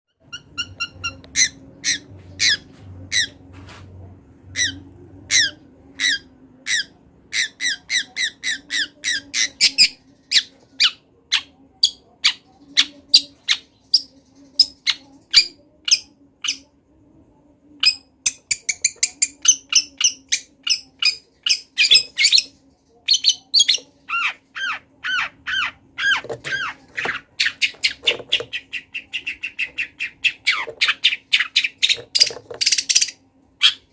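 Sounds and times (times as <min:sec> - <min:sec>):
bird singing varied song: 0:00.1 - 0:03.4, 0:04.5 - 0:16.7, 0:17.8 - 0:33.9.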